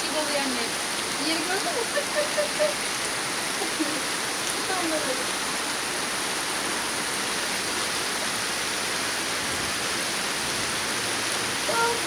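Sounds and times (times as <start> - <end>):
heavy rain on pavement and cars: 0.0 - 12.0.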